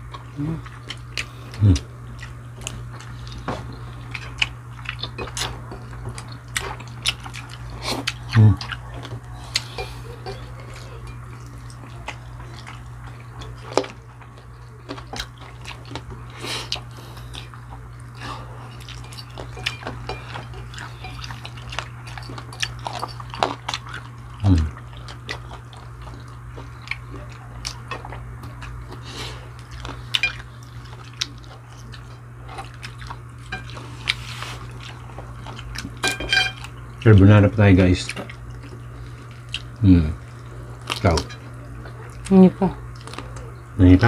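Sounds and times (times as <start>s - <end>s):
chewing fried chicken: 0.0s - 44.0s
steady low hum: 0.0s - 44.0s.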